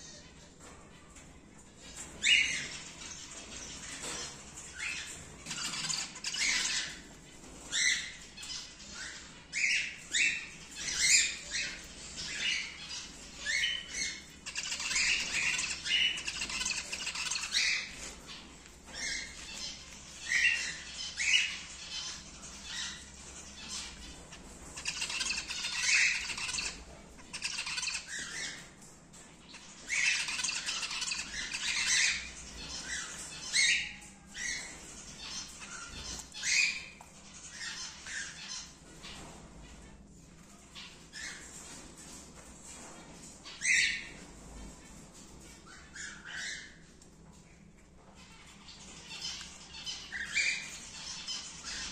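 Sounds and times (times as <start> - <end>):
cockatiels chirping and squawking: 0.0 - 51.9.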